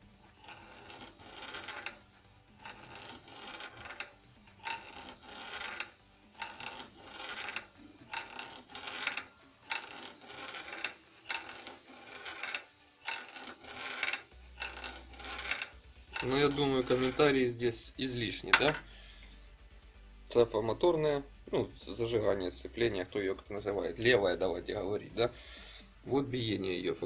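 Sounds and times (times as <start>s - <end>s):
metal scraping and squeaking: 0.0s - 19.3s, 20.3s - 25.4s.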